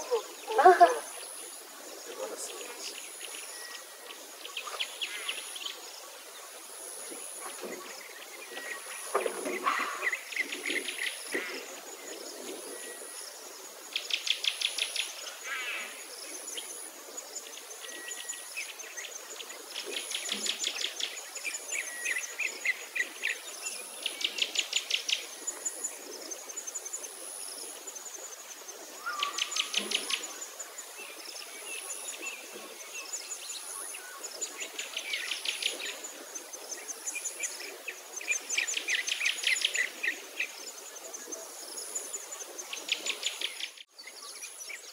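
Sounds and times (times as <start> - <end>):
faint high insect chirring: 0.0 - 44.9
songbird trill: 0.0 - 44.9.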